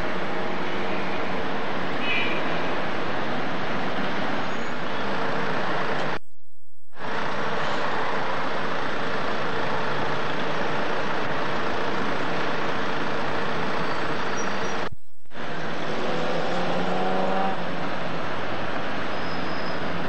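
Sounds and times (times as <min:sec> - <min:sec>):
street traffic hum: 0:00.0 - 0:06.3, 0:06.9 - 0:20.0.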